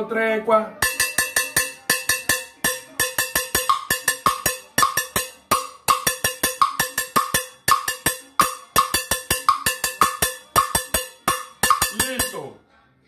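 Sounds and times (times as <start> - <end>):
cowbell struck with a stick: 0.8 - 12.5.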